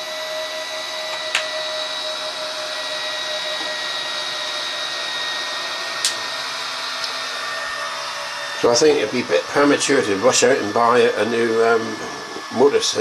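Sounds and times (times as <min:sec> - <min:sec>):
flywheel motor whining: 0:00.0 - 0:13.0.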